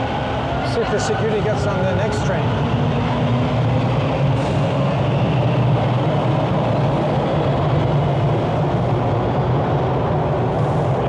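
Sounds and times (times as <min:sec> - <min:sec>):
subway train rail noise: 0:00.0 - 0:11.0.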